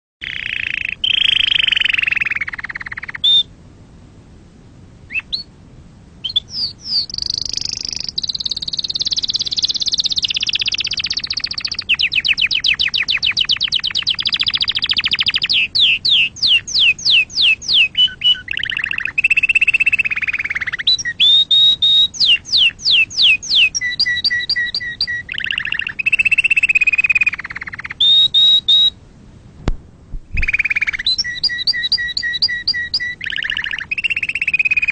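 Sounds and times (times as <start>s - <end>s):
canary singing trills: 0.2s - 3.5s, 5.1s - 5.5s, 6.2s - 29.0s, 30.4s - 34.9s.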